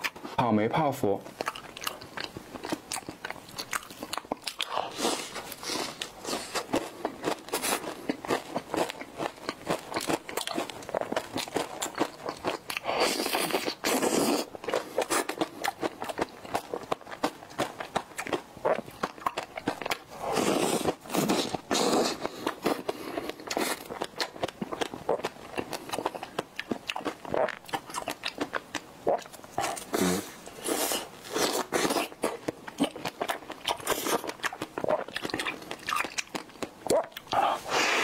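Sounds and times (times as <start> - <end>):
chewing: 1.2 - 38.0.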